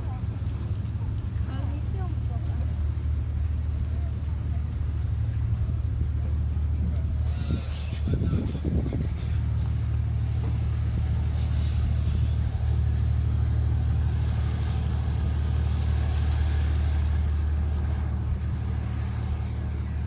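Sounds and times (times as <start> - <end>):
large engine humming: 0.0 - 20.0.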